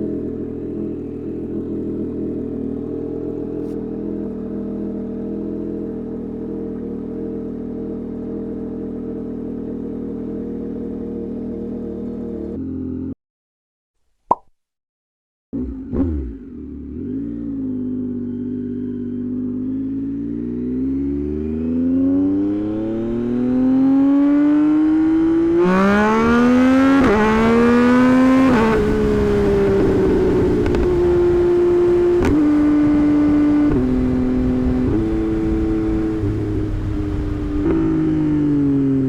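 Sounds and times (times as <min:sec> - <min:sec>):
motorcycle engine revving: 0:00.0 - 0:13.2, 0:15.6 - 0:39.0.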